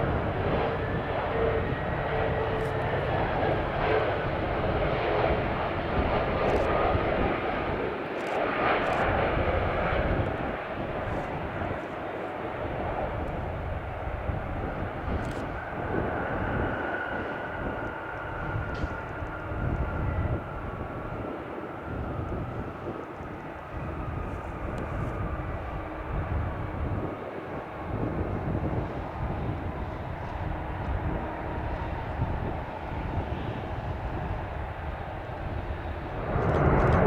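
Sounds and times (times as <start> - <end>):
jet engines rumbling: 0.0 - 37.0.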